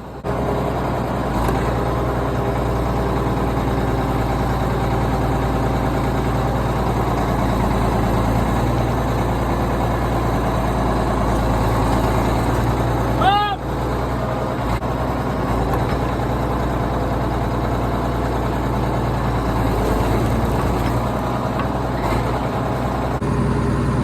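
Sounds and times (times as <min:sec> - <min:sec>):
diesel tractor engine idling: 0:00.0 - 0:24.0.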